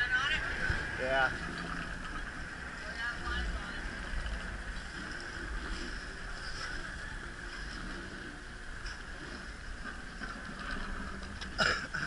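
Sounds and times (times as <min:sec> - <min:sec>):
boat engine rumble: 0:00.0 - 0:12.0
water rushing along hull: 0:00.0 - 0:12.0.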